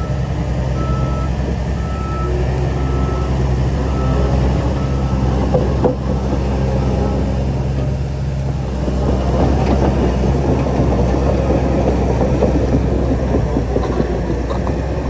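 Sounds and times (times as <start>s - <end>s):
diesel engine running: 0.0s - 15.0s
steel tracks clanking: 0.0s - 15.0s.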